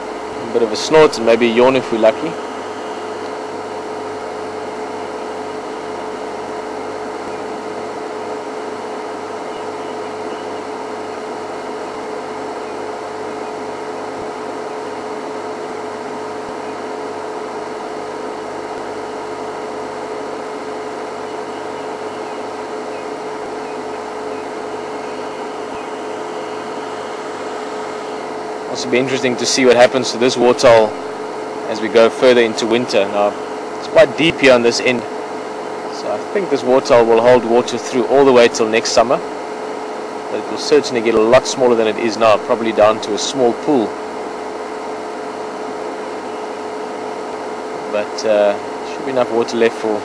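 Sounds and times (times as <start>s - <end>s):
constant tone: 0.0s - 50.0s
steady hum: 0.0s - 50.0s.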